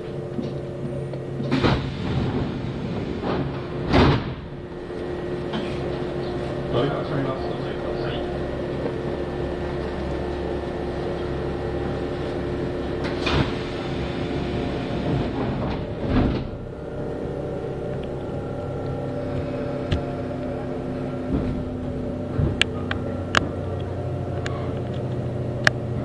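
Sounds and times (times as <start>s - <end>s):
train doors sliding shut: 0.0s - 26.0s
train electrical hum: 0.0s - 26.0s.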